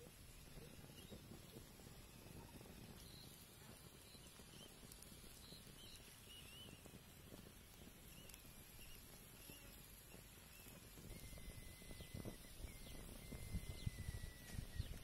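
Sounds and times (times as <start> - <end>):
faint high chirps: 0.0 - 7.1, 7.9 - 15.0
small fire crackling: 0.0 - 15.0.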